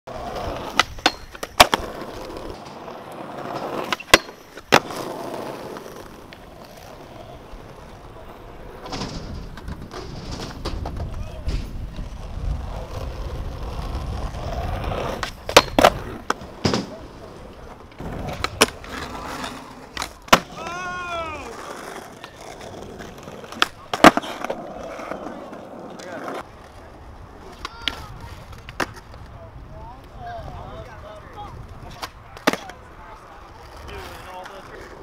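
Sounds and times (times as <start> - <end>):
skateboard clacking on ground: 0.1 - 29.4, 31.1 - 35.0
skateboard wheels rolling on asphalt: 0.1 - 35.0.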